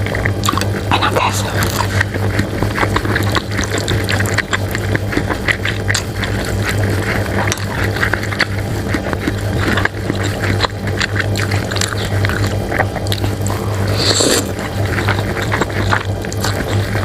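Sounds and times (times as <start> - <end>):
steady low hum: 0.0 - 17.0
wet chewing and mouth noises: 0.0 - 17.0.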